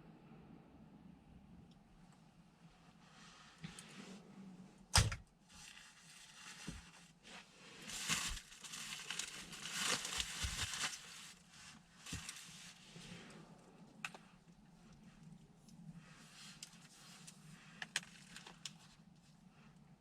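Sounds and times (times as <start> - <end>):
rustling and crinkling material: 2.7 - 20.0.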